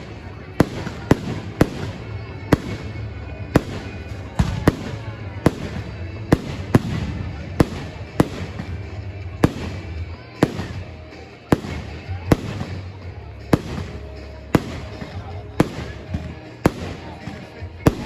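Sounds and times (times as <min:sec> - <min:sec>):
fireworks bangs: 0:00.0 - 0:18.0
rumble of firework bursts: 0:00.0 - 0:18.0.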